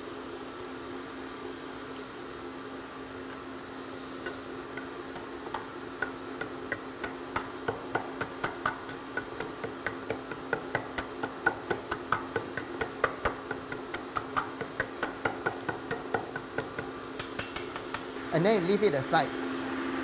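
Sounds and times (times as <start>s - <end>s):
steady low hum: 3.2s - 19.9s.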